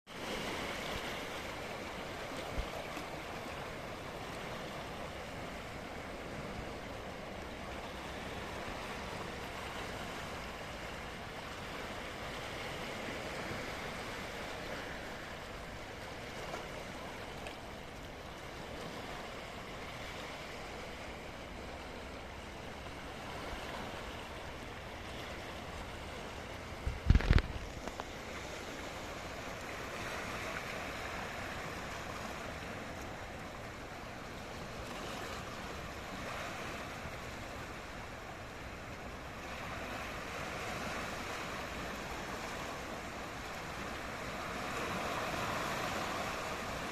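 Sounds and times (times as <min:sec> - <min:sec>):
sea waves washing: 0:00.1 - 0:46.9.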